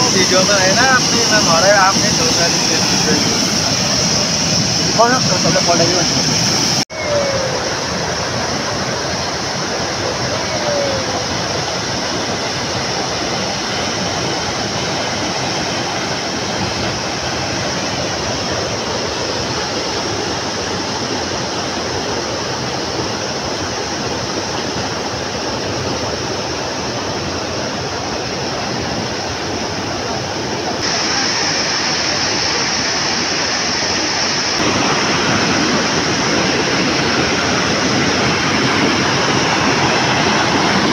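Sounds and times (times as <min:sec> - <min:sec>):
stream water rushing over rocks: 0:00.0 - 0:40.9.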